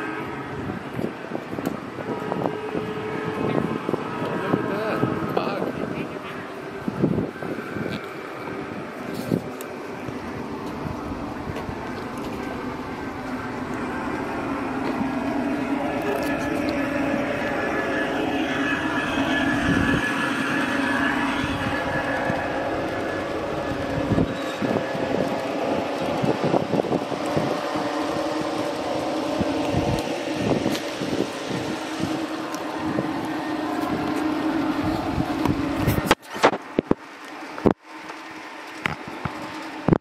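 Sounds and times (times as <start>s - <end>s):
model train running on track: 0.0s - 40.0s.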